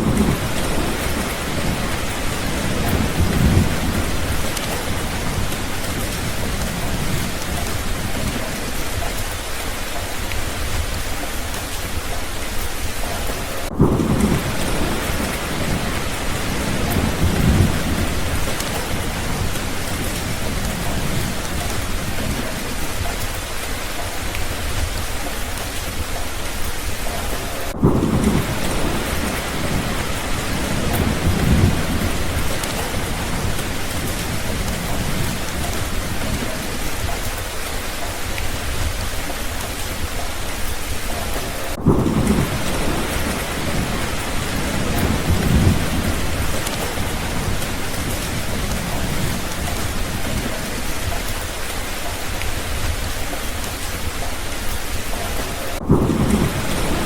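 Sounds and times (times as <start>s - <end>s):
steady rain falling: 0.0s - 57.0s
thunder rumbling: 0.0s - 57.0s.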